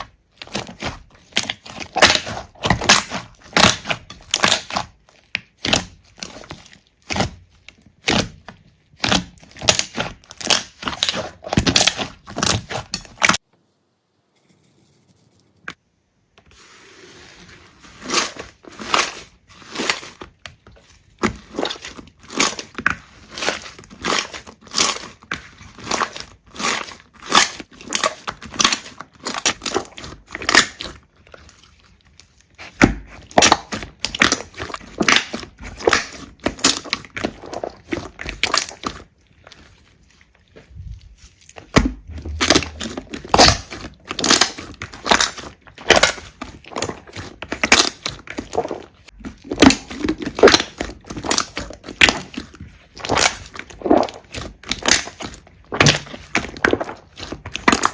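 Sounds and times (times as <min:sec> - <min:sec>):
slime crackling and popping: 0:00.0 - 0:13.4, 0:18.1 - 0:57.9.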